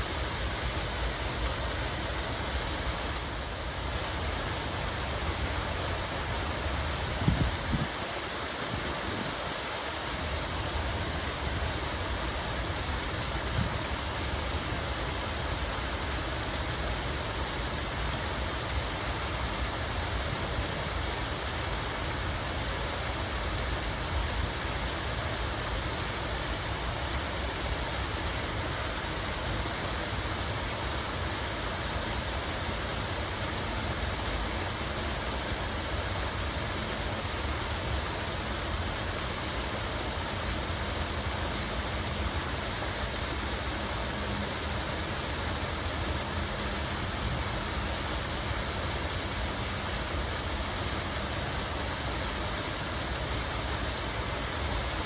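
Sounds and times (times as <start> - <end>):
rushing splashing water: 0.0 - 55.0.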